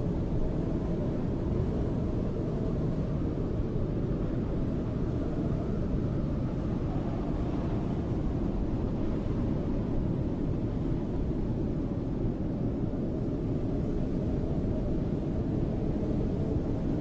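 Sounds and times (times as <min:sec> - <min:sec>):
snowstorm wind blowing: 0:00.0 - 0:17.0.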